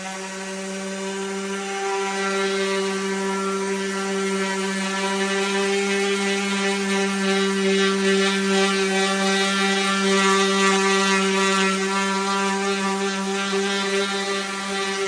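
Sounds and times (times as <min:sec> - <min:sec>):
electric power sander humming: 0:00.0 - 0:15.0.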